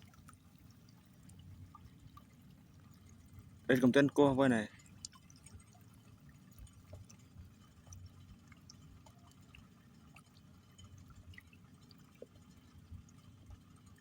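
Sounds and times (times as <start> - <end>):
small ticks and drips: 0.0 - 14.0.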